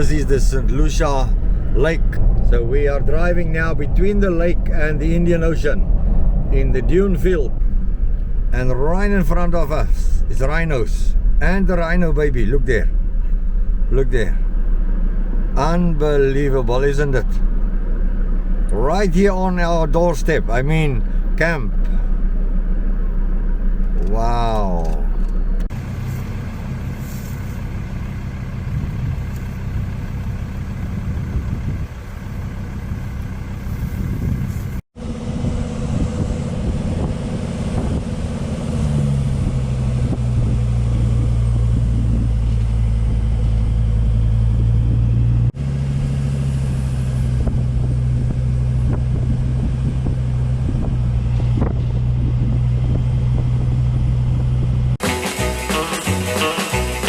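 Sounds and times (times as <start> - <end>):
car engine hum: 0.0 - 57.0
road noise: 0.0 - 57.0.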